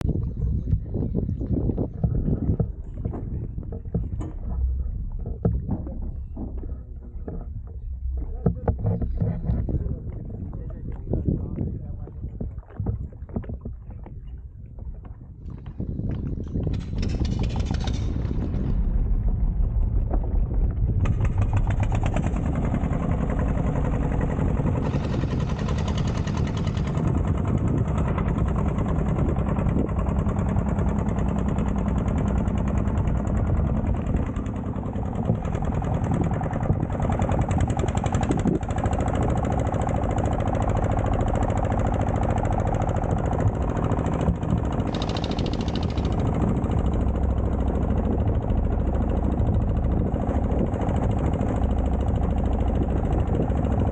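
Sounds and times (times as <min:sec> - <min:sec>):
boat engine knocking: 0:00.0 - 0:53.9.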